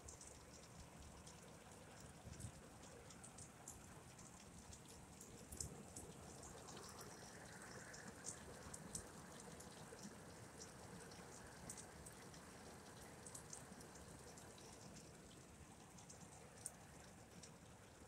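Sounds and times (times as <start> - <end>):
raindrops ticking: 0.1 - 17.6.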